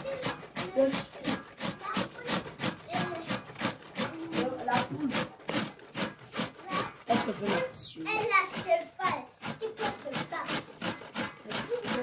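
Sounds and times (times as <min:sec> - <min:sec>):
beetroot grated on metal grater: 0:00.0 - 0:12.0.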